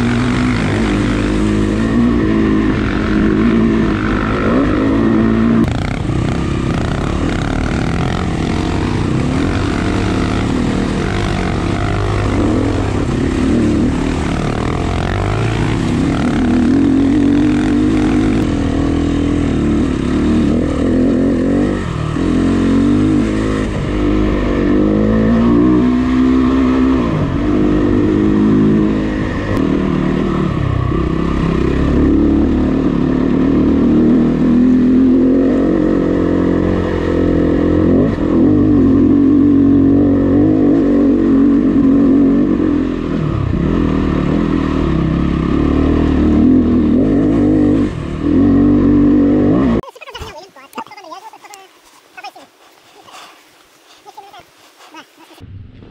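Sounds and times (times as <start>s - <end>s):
dirt bike engine revving: 0.0s - 50.8s.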